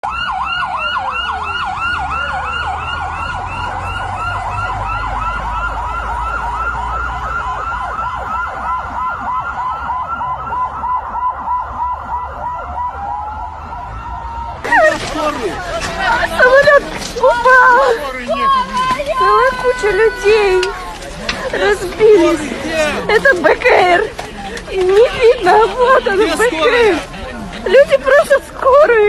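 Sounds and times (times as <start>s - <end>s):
emergency siren yelping: 0.0s - 29.0s.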